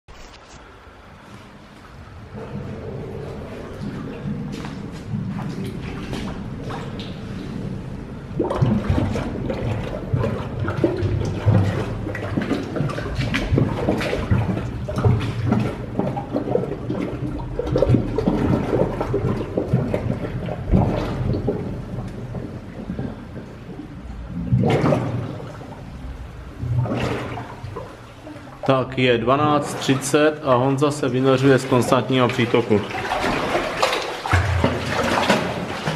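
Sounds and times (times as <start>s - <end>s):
air bubbles gurgling: 1.0s - 35.9s.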